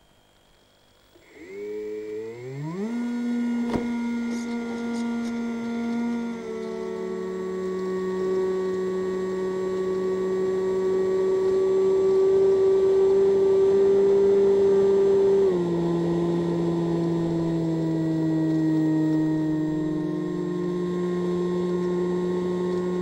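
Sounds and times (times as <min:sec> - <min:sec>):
model plane motor whine: 0:00.0 - 0:23.0.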